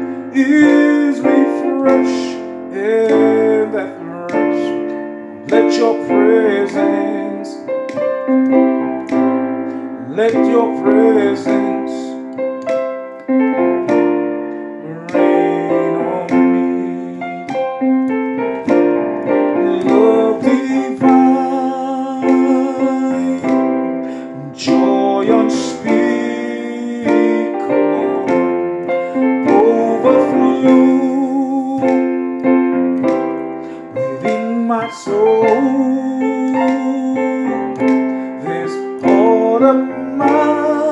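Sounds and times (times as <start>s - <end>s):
piano-toned keyboard playing chords: 0.0s - 40.9s.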